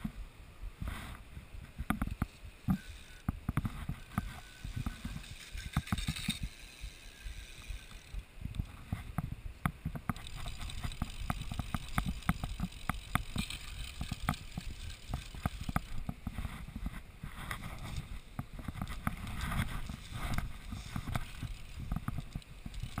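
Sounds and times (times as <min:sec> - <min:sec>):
sharp clicks and knocks: 0:01.7 - 0:06.5, 0:07.6 - 0:23.0.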